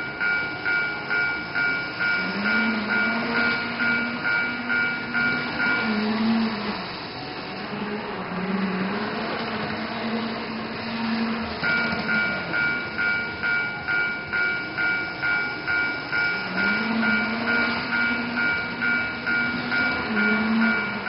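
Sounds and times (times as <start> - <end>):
level crossing alarm dinging: 0.0 - 7.3, 9.9 - 21.0.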